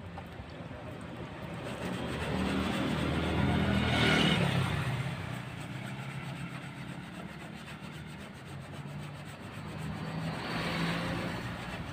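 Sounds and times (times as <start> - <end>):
street traffic rumbling: 0.0 - 11.9
wet sandpaper rubbing: 1.3 - 11.9.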